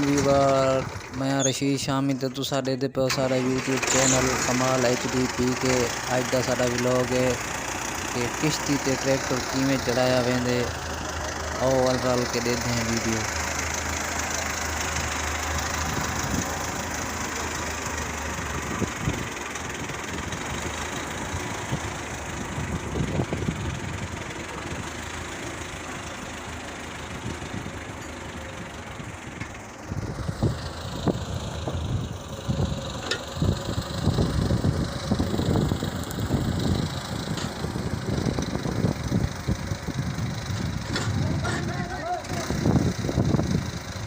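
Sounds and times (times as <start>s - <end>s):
engine idling: 0.0s - 44.0s
uneven low rumbling: 8.2s - 44.0s.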